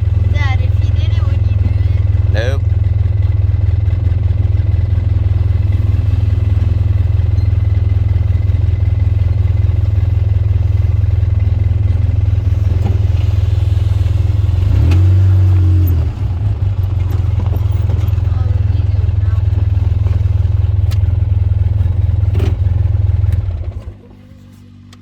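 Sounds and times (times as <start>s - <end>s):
off-road vehicle engine droning: 0.0s - 25.0s.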